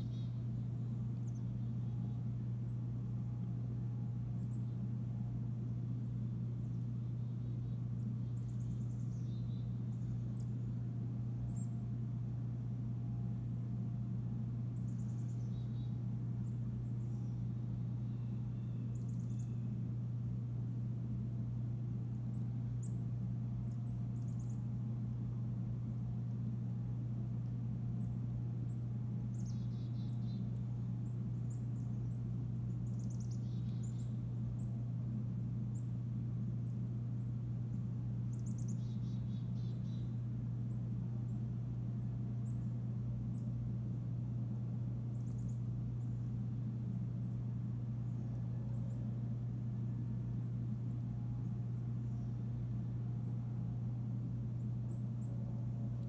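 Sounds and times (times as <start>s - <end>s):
small birds chirping: 0.0s - 56.0s
steady low hum: 0.0s - 56.0s.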